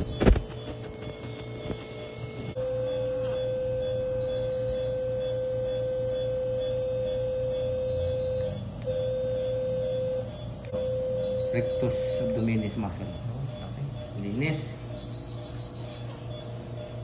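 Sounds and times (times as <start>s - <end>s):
electrosurgical activation tone: 0.0s - 17.0s
short high beeps: 2.8s - 17.0s.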